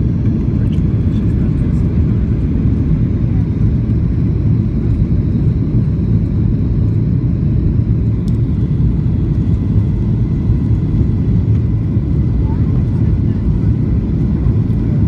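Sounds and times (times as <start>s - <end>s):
jet engines and airflow rumble: 0.0s - 15.0s.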